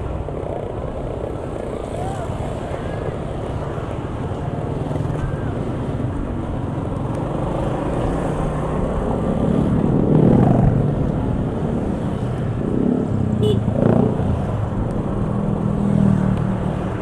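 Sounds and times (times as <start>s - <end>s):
road noise: 0.0s - 17.0s
vehicle engines running: 0.0s - 17.0s.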